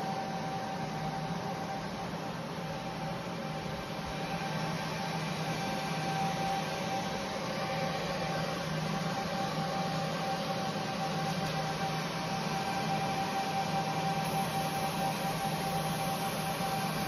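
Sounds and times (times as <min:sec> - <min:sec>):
cooling fan whirring: 0:00.0 - 0:17.0
thin steady whine: 0:00.0 - 0:17.0.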